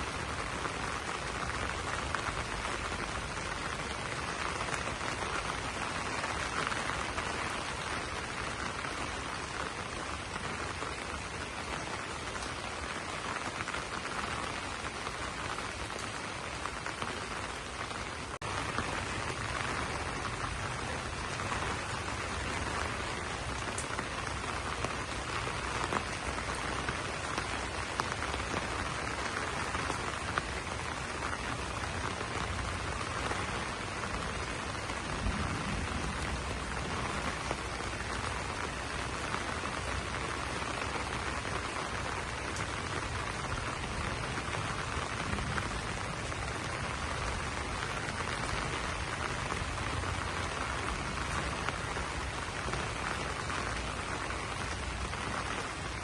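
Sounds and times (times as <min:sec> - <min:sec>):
rain on broad leaves: 0:00.0 - 0:56.0.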